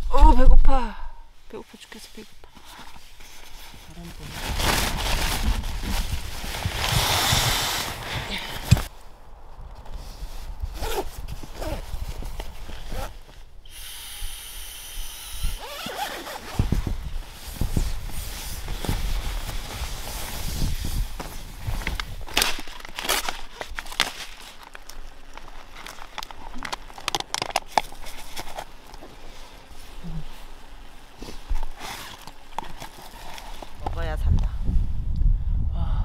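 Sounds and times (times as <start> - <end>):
camping gear rustling: 1.4 - 13.8, 15.5 - 34.8.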